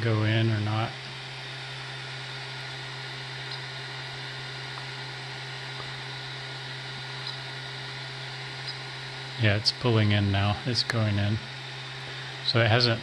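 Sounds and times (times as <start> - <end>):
cooling fans hissing: 0.0 - 13.0
low hum: 0.0 - 13.0.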